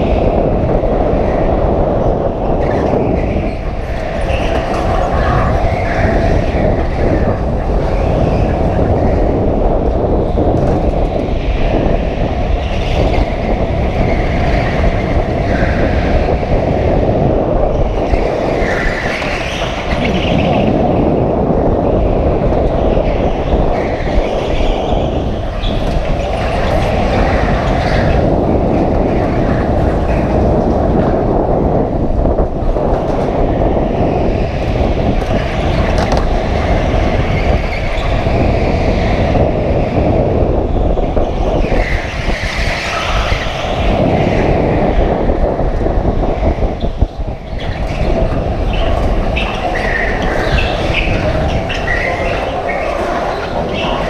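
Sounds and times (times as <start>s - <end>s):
go-kart engine and tyres: 0.0s - 54.0s.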